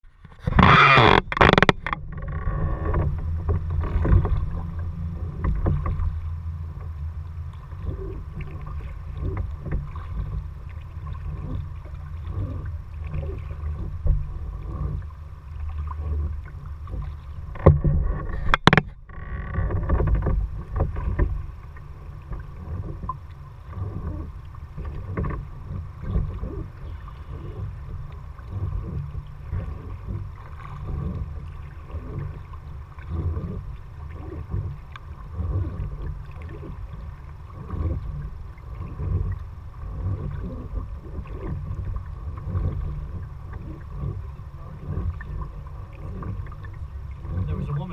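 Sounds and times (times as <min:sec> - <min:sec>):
paddle splashing water: 0:00.0 - 0:47.9
steady low rumble: 0:00.0 - 0:47.9.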